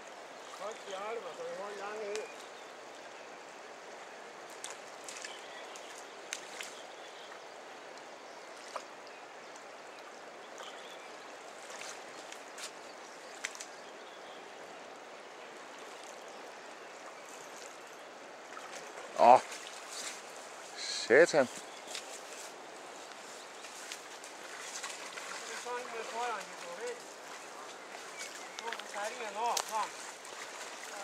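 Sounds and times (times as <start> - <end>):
river water flowing: 0.0 - 31.0.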